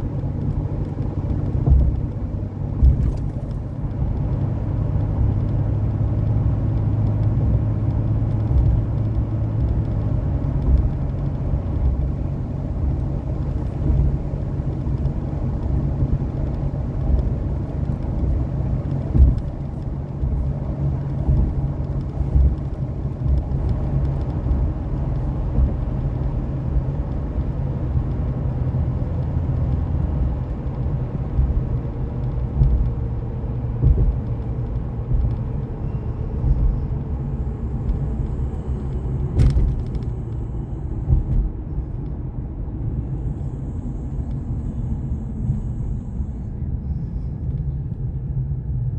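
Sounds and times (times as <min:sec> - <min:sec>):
vehicle bumps and jolts: 0:00.0 - 0:46.1
road rumble: 0:00.0 - 0:48.9
vehicle engine hum: 0:00.0 - 0:48.9.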